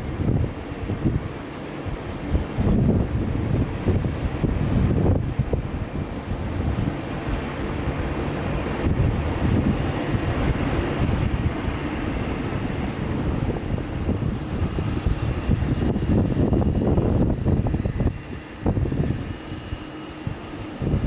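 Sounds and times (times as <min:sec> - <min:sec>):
high jet engine whine: 0:00.0 - 0:21.0
jet engines rumbling: 0:00.0 - 0:21.0.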